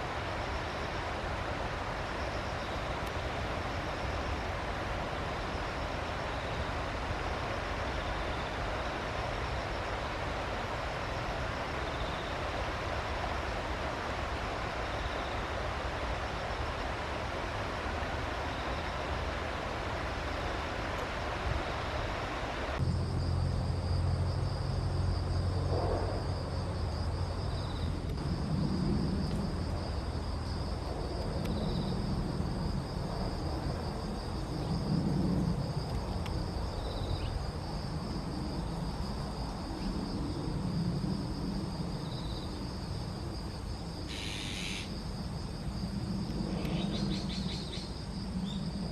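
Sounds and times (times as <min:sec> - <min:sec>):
insects trilling: 0:00.0 - 0:48.9.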